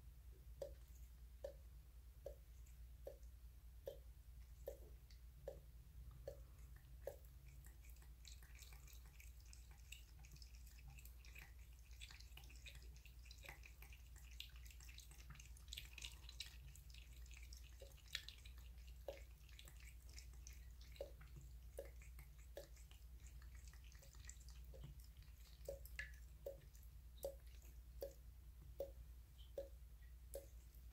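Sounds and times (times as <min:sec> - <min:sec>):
water dripping into basin: 0:00.4 - 0:30.9
cat lapping water: 0:00.6 - 0:30.9.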